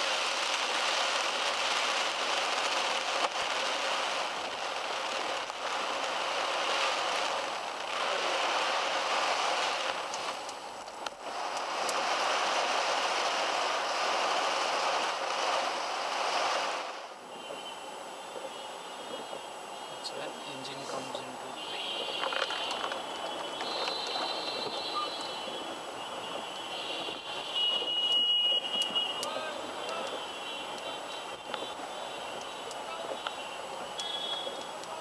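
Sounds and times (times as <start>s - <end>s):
heavy rain on car roof: 0.0s - 35.0s.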